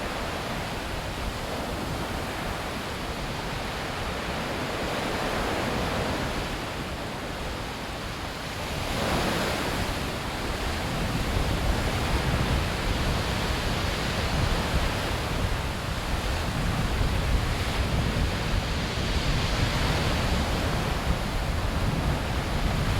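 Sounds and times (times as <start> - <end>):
gentle waves washing on shore: 0.0 - 22.9.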